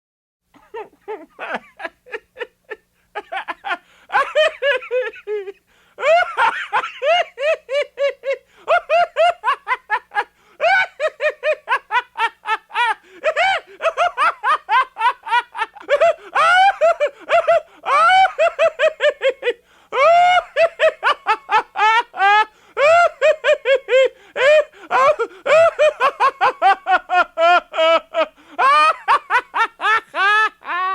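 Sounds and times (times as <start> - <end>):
person laughing maniacally: 0.6 - 30.9.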